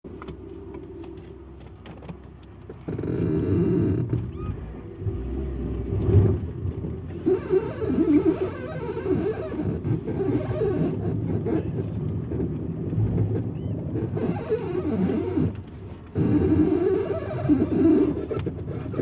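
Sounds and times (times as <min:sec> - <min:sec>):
car suspension creaking and squeaking: 0:00.1 - 0:19.0.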